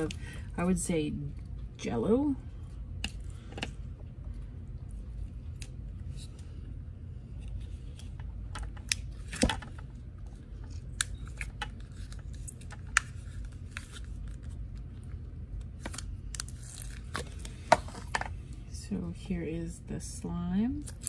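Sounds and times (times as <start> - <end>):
low hum: 0.0 - 20.8.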